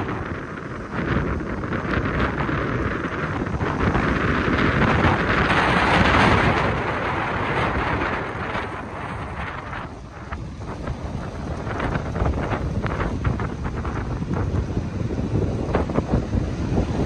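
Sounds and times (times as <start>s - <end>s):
surf washing up a beach: 0.0s - 17.0s
wind buffeting microphone: 0.0s - 17.0s.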